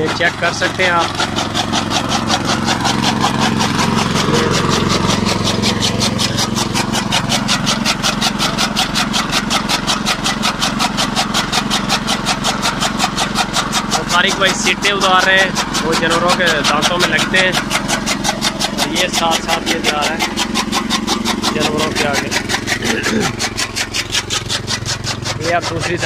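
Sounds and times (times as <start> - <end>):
cutter blades chopping fodder: 0.0 - 26.0
small engine running: 0.0 - 26.0.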